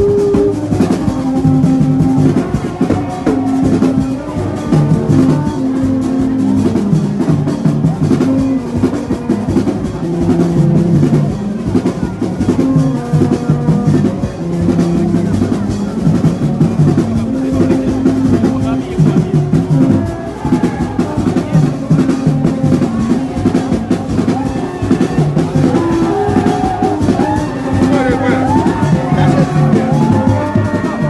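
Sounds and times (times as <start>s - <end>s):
fast dense drumming: 0.0s - 31.0s.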